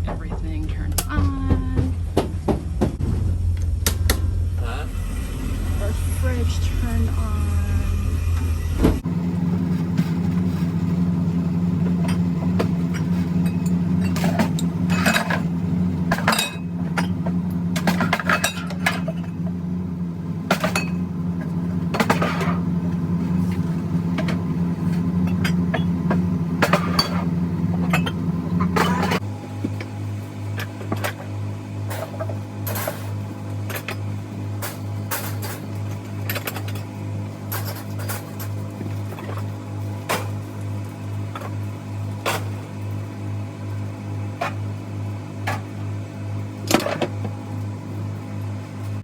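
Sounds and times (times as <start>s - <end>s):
mechanical equipment hum: 0.0s - 49.0s.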